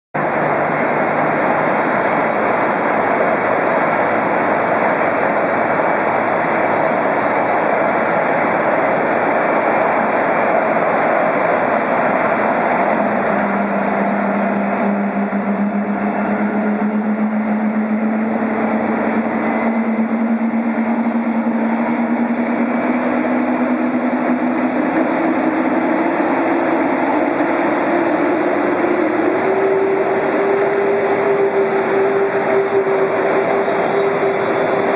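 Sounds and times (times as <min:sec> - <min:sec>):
engine whine rising in pitch: 0:00.2 - 0:34.9
jet engines roaring: 0:00.2 - 0:34.9.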